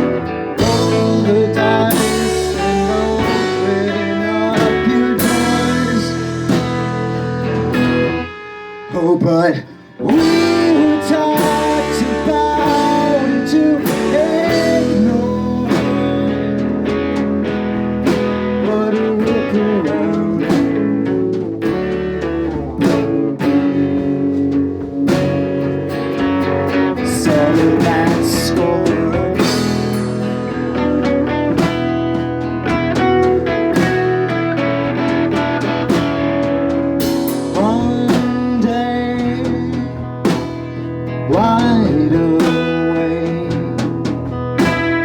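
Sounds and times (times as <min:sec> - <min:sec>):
electric guitars: 0:00.0 - 0:45.0
live rock band: 0:00.0 - 0:45.0.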